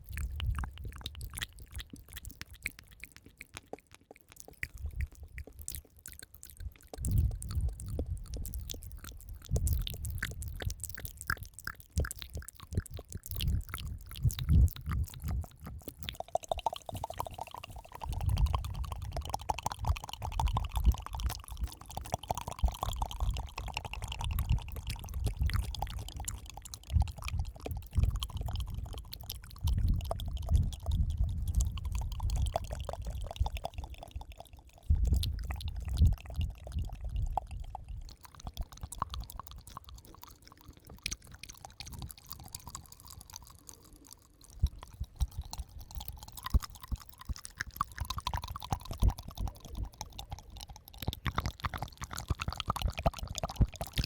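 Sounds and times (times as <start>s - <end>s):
wet mouth clicks and smacks: 0.0s - 54.0s.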